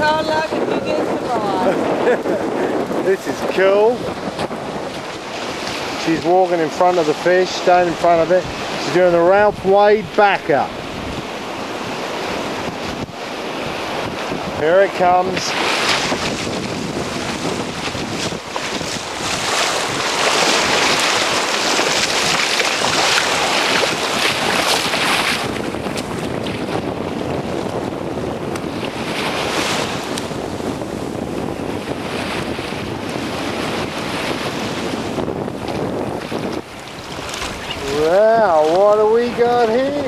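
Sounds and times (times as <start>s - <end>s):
surf breaking on beach: 0.0s - 40.0s
wind buffeting microphone: 0.0s - 40.0s.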